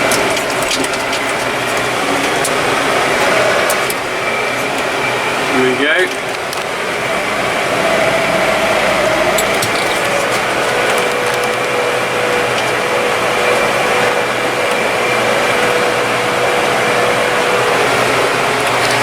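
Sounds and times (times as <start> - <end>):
steady whine: 0.0 - 19.0
tractor engine running: 0.0 - 19.0.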